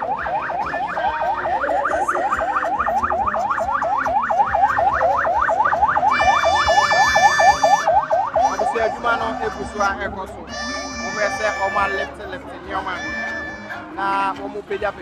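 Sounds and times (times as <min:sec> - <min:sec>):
electronic siren yelping: 0:00.0 - 0:12.1.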